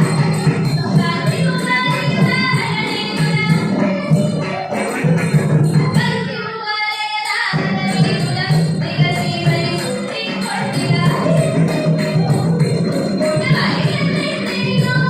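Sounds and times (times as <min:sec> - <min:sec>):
hand drum playing: 0:00.0 - 0:06.2, 0:07.6 - 0:15.0
jingling hand cymbals: 0:00.0 - 0:06.3, 0:07.2 - 0:15.0.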